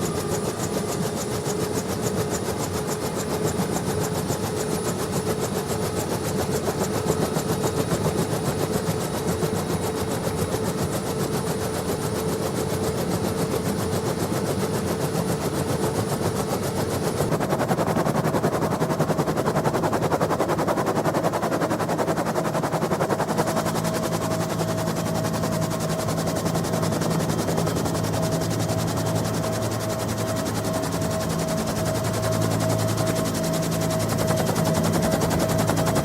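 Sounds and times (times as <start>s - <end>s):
helicopter engine whine: 0.0s - 36.0s
helicopter rotor blade chop: 0.0s - 36.0s.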